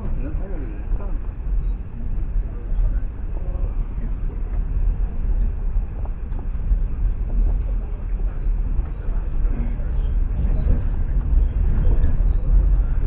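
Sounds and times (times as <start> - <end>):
train carriage rumbling on track: 0.0 - 13.0.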